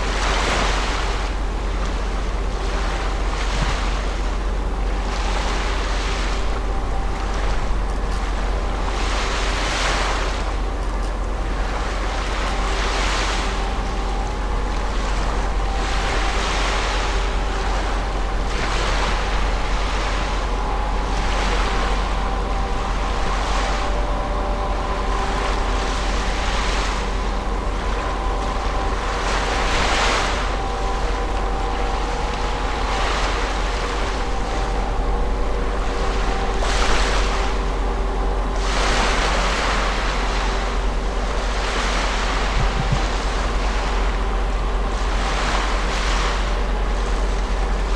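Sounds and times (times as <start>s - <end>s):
faint steady ship tones: 0.0s - 47.9s
ship engine low hum: 0.0s - 47.9s
small waves washing on shore: 0.0s - 47.9s
wind rumble on microphone: 0.0s - 47.9s.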